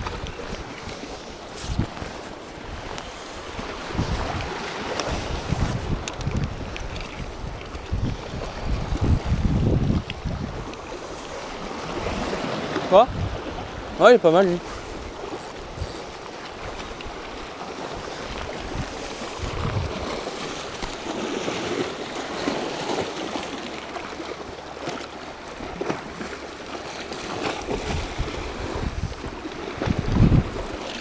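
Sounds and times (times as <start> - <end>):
waves washing against rocks: 0.0 - 31.0.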